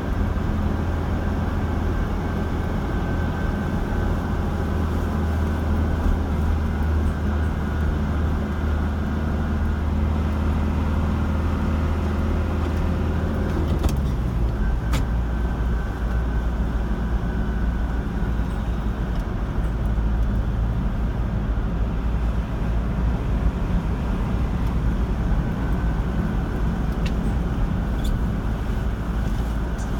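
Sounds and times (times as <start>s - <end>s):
car engine and tyre noise: 0.0s - 29.9s.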